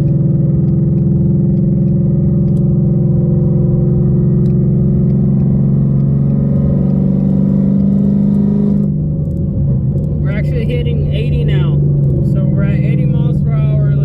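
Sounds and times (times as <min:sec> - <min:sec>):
car engine and exhaust droning: 0:00.0 - 0:14.0
road noise: 0:00.0 - 0:14.0.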